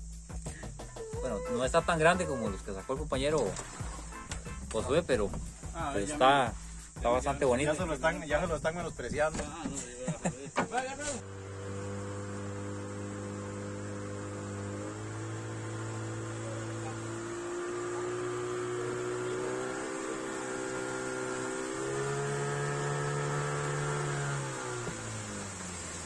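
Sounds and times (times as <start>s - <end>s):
small boat motor humming: 0.0s - 7.0s, 9.0s - 26.0s.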